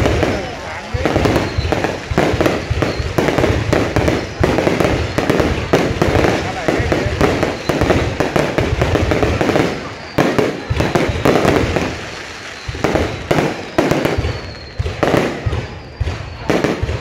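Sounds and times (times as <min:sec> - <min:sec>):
firework bangs: 0:00.0 - 0:17.0
firework crackling: 0:00.0 - 0:17.0.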